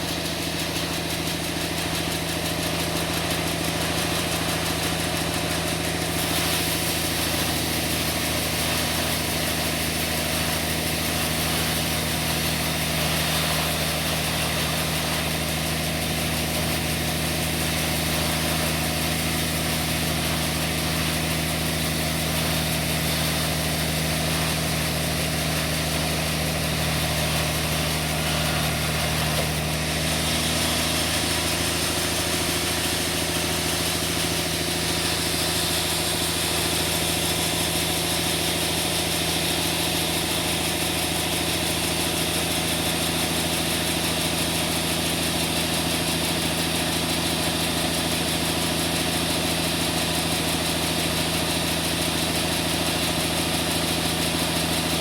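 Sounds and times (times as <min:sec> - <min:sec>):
sawmill machinery hum: 0:00.0 - 0:55.0.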